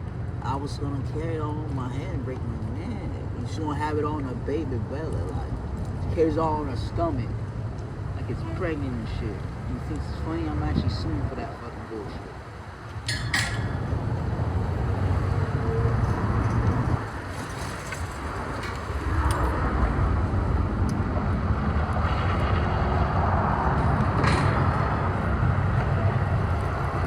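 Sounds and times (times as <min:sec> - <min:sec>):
low rumble of road traffic: 0:00.0 - 0:27.0.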